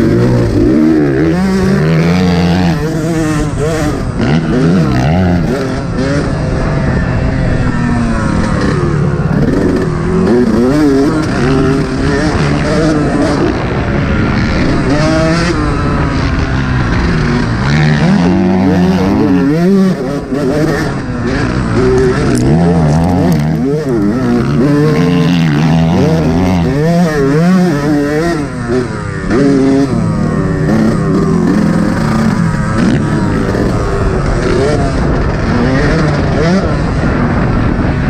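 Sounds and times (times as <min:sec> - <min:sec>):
two-stroke motorcycle revving: 0:00.0 - 0:38.0.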